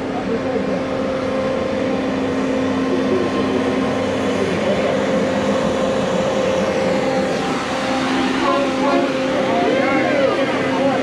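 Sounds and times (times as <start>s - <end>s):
train humming with low tones: 0.0s - 11.0s.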